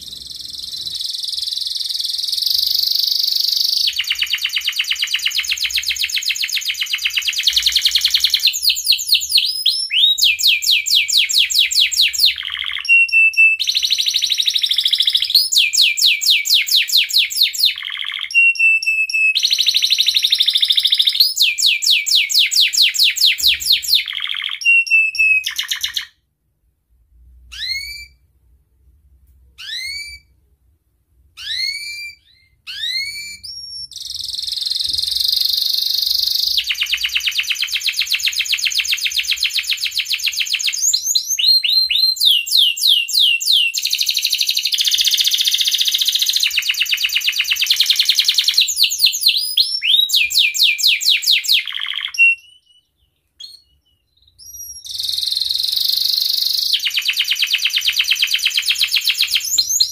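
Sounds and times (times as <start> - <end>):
canary singing trills: 0.0 - 26.2, 27.5 - 28.2, 29.6 - 30.3, 31.4 - 59.9.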